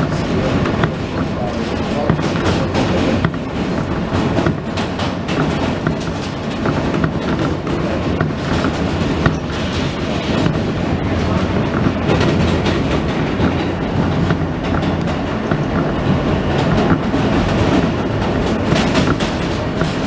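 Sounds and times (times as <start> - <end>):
clatter over rail joints: 0.0 - 20.0
subway train wheels rumbling: 0.0 - 20.0.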